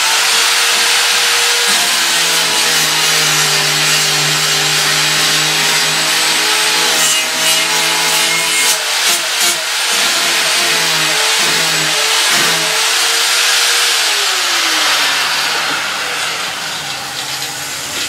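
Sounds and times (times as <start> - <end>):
power tool sanding wood: 0.0 - 18.0.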